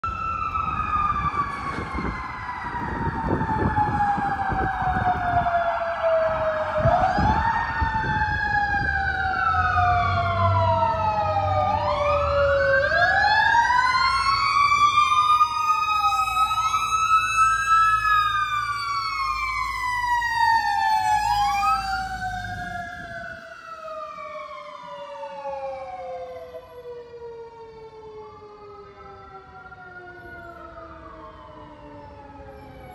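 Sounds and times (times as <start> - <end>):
mechanical siren wailing: 0.0 - 32.9.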